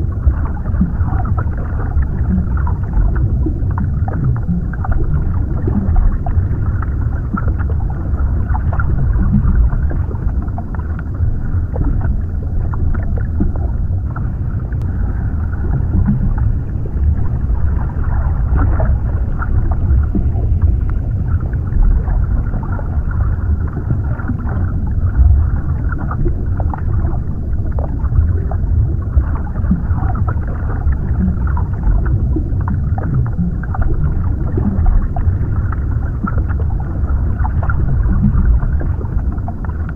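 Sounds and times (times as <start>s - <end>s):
deep underwater rumble: 0.0s - 39.9s
faint bubbling and gurgles: 0.0s - 39.9s.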